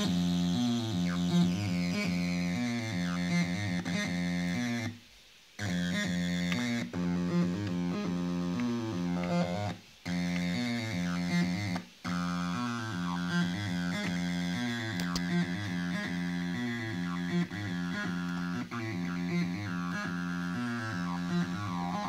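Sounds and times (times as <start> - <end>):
acid bassline synthesizer: 0.0 - 4.9, 5.6 - 22.0.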